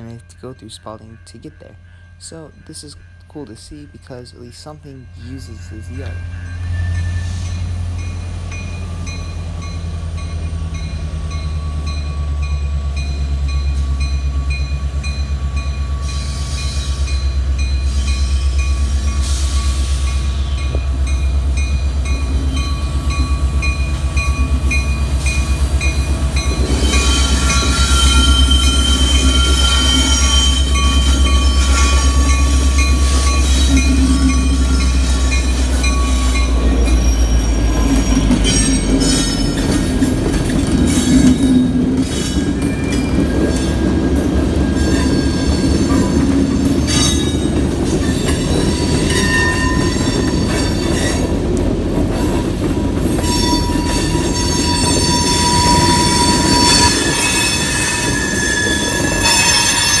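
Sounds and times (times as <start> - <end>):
train wheels squealing: 0.0 - 51.4, 52.2 - 60.0
diesel locomotive engine: 0.0 - 60.0.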